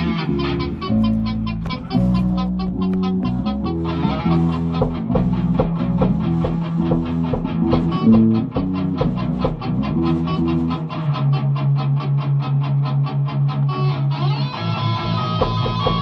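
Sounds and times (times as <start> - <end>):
bass guitar: 0.0 - 16.0
guitar chords: 0.0 - 16.0.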